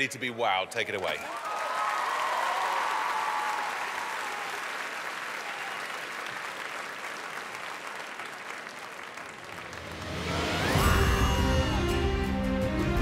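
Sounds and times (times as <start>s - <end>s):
audience applauding: 1.0s - 11.8s.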